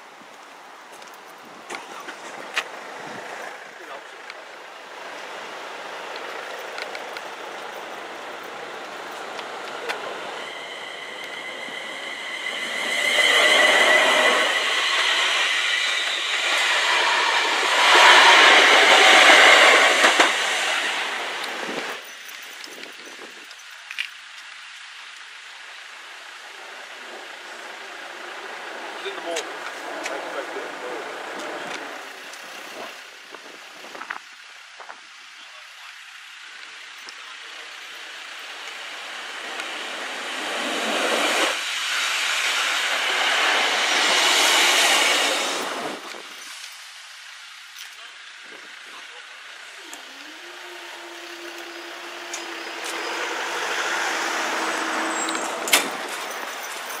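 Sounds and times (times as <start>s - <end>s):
train wheels rushing on rails: 0.0s - 23.3s, 26.5s - 33.3s, 37.4s - 47.6s, 49.3s - 57.0s.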